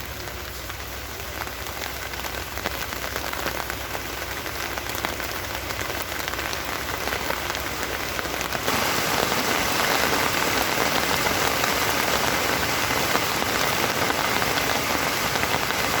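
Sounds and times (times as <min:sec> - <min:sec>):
rain pattering on a surface: 0:00.0 - 0:16.0.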